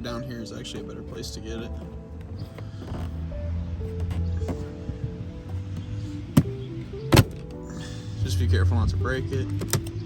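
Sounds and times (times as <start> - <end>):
background music with steady tones: 0.0 - 10.0.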